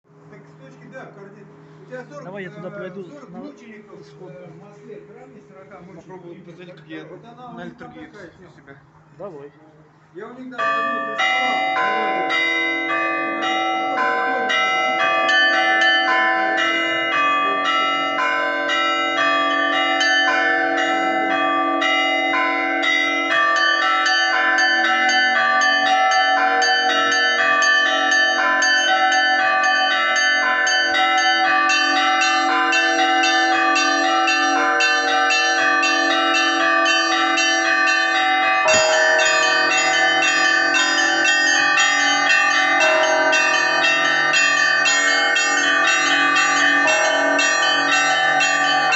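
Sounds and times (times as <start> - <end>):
deeper bell ringing: 0.1 - 8.2, 10.2 - 48.9
church bells pealing: 0.1 - 48.9.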